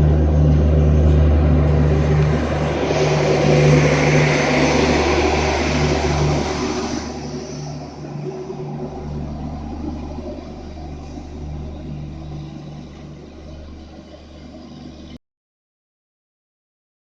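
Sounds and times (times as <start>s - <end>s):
train humming and running: 0.0s - 15.2s.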